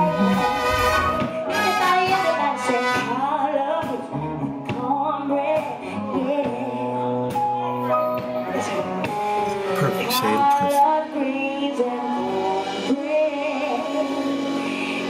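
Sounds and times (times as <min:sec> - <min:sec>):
live band music: 0:00.0 - 0:15.0
woman singing: 0:01.2 - 0:09.2, 0:10.0 - 0:15.0.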